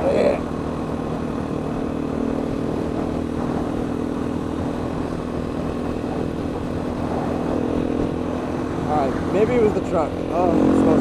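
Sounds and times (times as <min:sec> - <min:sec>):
dirt bike engine cruising: 0:00.0 - 0:11.0
wind rushing over microphone: 0:00.0 - 0:11.0.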